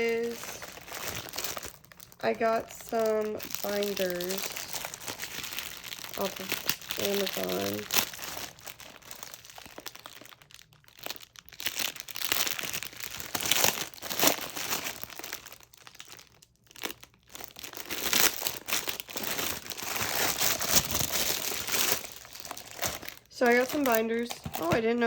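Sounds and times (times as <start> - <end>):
packaging crinkling and tearing: 0.0 - 25.0.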